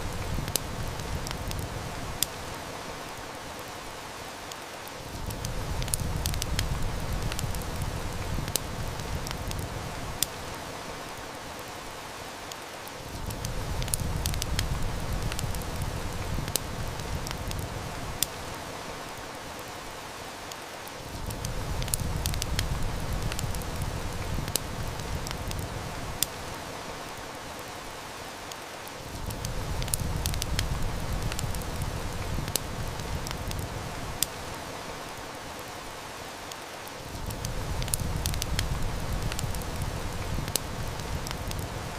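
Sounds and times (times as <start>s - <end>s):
heavy rain hiss: 0.0s - 41.9s
wood fire crackling: 0.0s - 41.9s.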